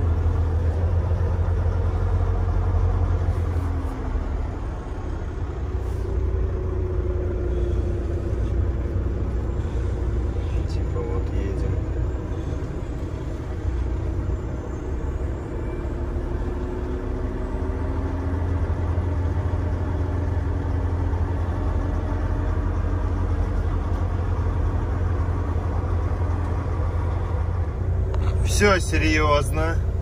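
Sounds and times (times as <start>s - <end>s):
truck diesel engine droning: 0.0s - 30.0s.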